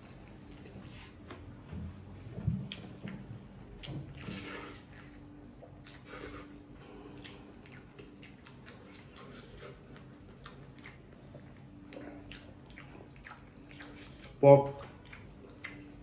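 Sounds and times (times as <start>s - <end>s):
chewing noodles: 0.0s - 1.2s, 2.3s - 16.0s.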